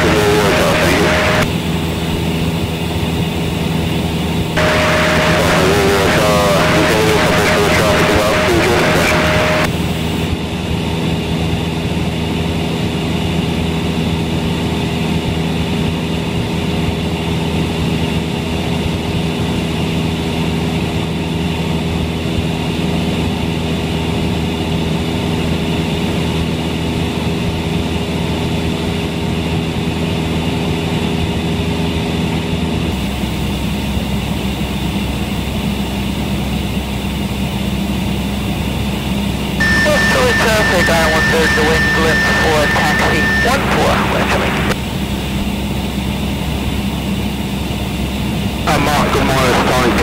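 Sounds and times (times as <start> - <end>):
airplane engine and propeller droning: 0.0 - 50.0.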